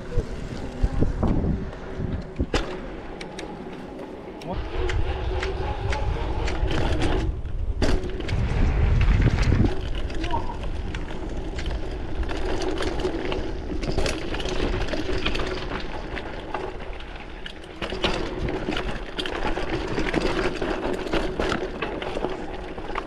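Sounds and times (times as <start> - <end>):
bike rattling and clatter: 0.0 - 23.0
bike tyre noise: 0.0 - 23.0.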